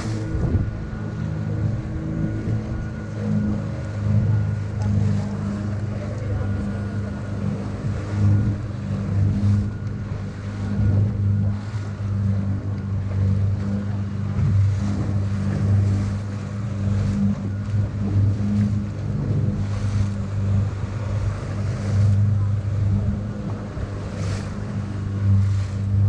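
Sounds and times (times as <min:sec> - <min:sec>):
boat engine droning: 0:00.0 - 0:26.0
water rushing along hull: 0:00.0 - 0:26.0.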